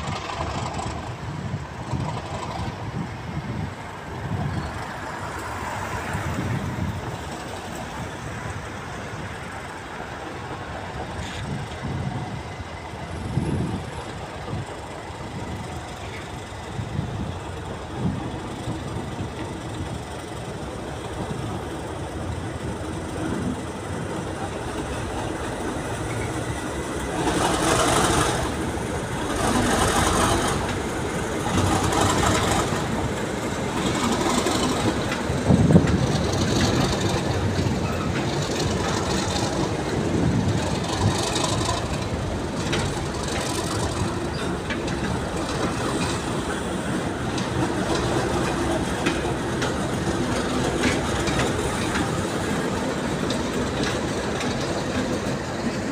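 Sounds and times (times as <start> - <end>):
diesel locomotive engines: 0.0 - 55.9
wheels clacking over rail joints: 0.0 - 55.9.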